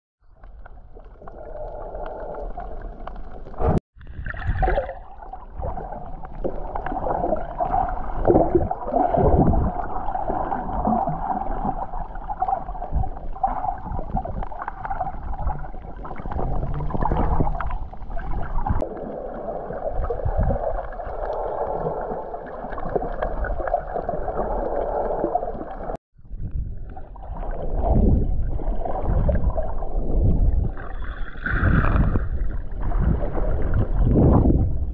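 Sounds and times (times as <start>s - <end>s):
underwater gurgling and sloshing: 0.2s - 34.9s.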